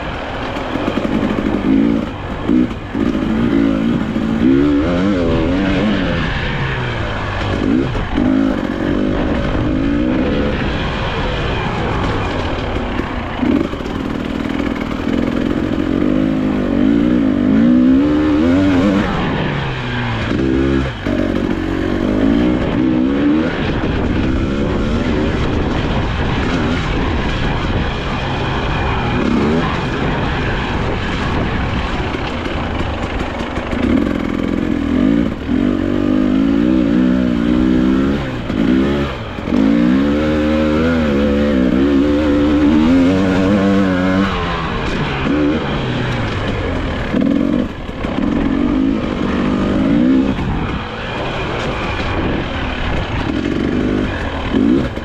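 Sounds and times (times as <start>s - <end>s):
two-stroke engine revving: 0.0s - 55.0s.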